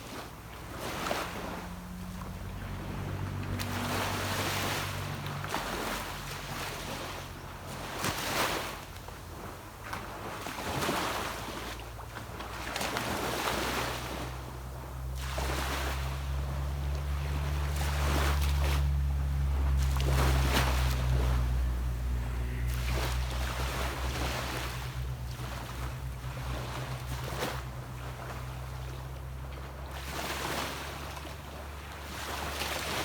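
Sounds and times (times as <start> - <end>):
motorboat engine drone: 0.0 - 33.0
sea waves washing onto beach: 0.0 - 33.0.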